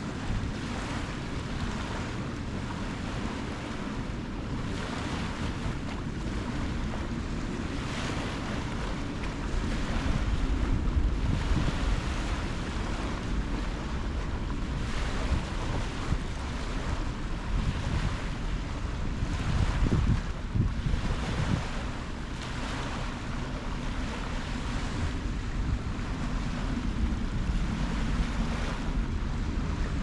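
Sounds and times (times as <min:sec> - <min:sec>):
sea waves breaking: 0:00.0 - 0:30.0
wind buffeting microphone: 0:00.0 - 0:30.0.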